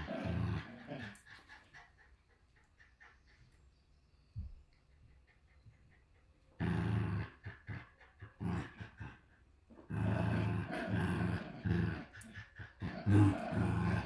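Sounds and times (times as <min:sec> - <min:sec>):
dogs growling: 0:00.0 - 0:03.3, 0:05.9 - 0:14.0.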